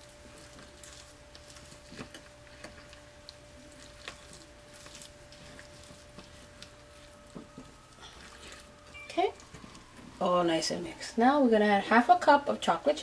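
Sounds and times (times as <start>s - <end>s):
batter squelching: 0.0s - 13.0s.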